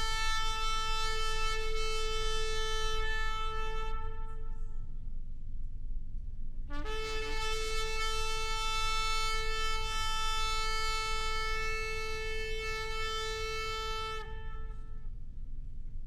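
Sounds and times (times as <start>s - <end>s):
shofar long blast: 0.0s - 5.1s, 6.7s - 15.2s.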